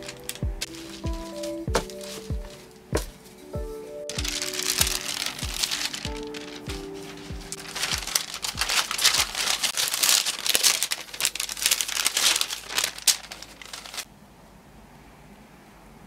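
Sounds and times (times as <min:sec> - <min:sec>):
parchment paper crinkling: 0:00.0 - 0:03.4, 0:04.1 - 0:14.1.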